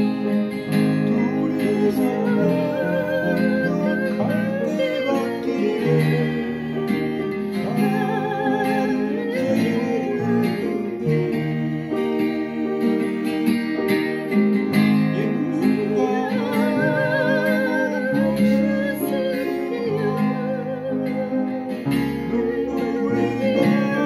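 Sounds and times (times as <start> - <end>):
acoustic guitar: 0.0 - 24.0
person singing with vibrato: 0.0 - 24.0
upright piano: 0.0 - 24.0.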